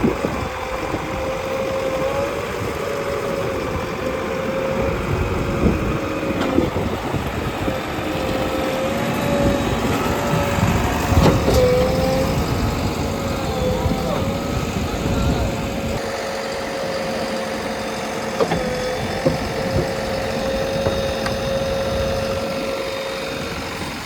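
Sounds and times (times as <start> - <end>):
diesel engine running: 0.0 - 24.0
wavering whine: 0.0 - 24.0.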